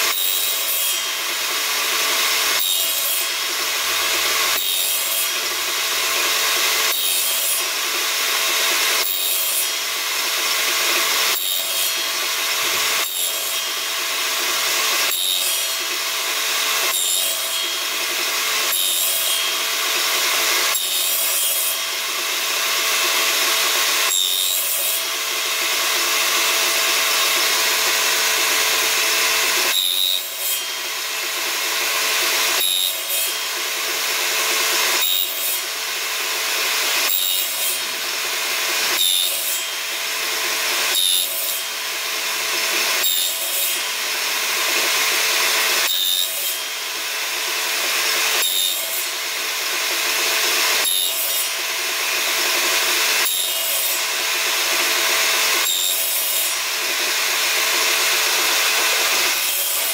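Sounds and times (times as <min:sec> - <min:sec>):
table saw cutting slots: 0:00.0 - 0:59.9.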